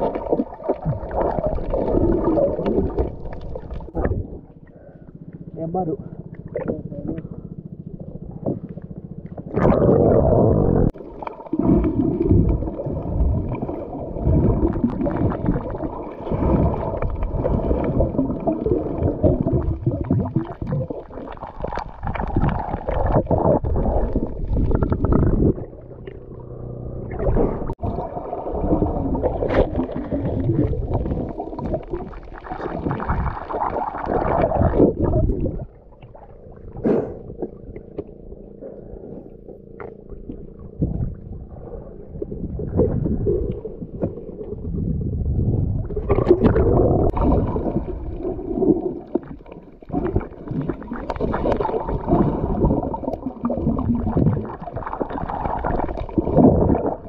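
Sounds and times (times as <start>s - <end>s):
muffled underwater rumbling and gurgling: 0.0s - 57.0s.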